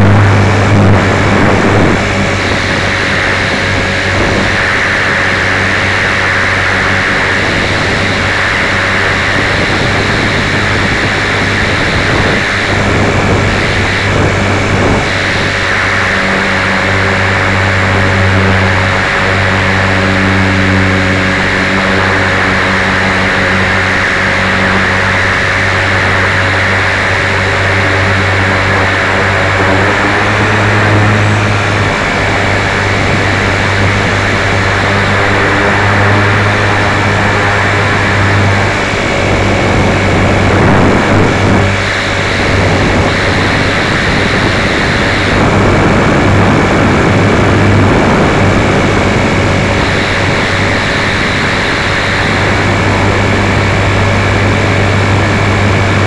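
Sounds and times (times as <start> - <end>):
helicopter motor and rotor hum: 0.0 - 56.0.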